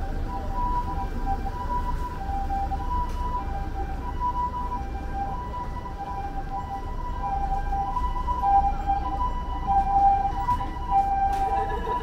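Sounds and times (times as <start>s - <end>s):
two-tone ambulance siren: 0.0s - 12.0s.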